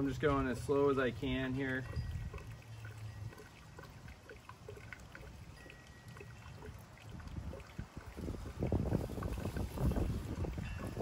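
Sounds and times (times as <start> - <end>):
gasoline trickling through funnel: 0.0 - 11.0
small drips and ticks: 0.0 - 11.0.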